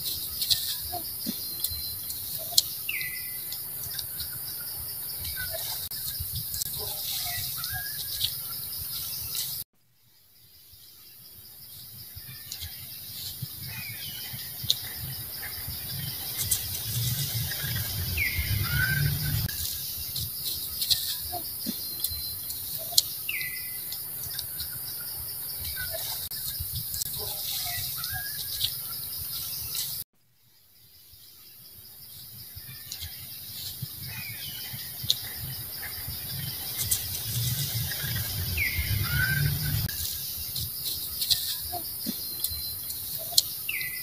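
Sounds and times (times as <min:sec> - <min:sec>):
high insect hiss: 0:00.0 - 0:44.0.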